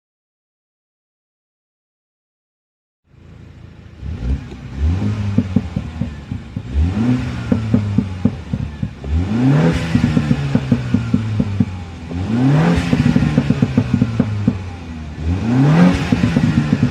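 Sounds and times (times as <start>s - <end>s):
car engine revving: 3.1s - 16.9s
exhaust crackles: 3.1s - 16.9s.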